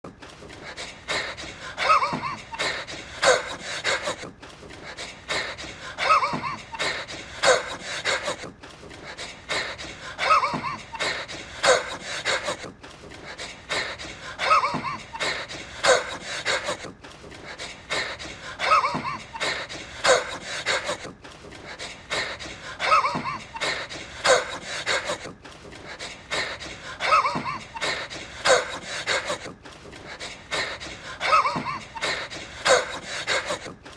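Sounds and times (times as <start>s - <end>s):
man wheezing: 0.6s - 33.9s.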